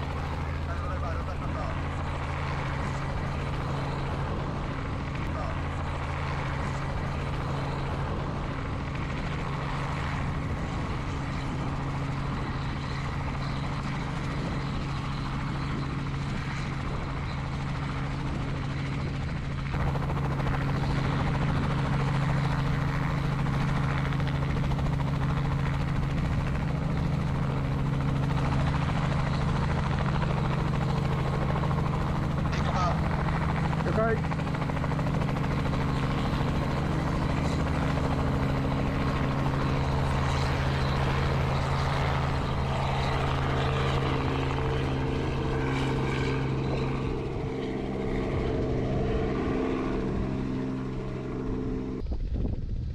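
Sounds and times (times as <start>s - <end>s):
helicopter rotor and engine: 0.0s - 52.9s.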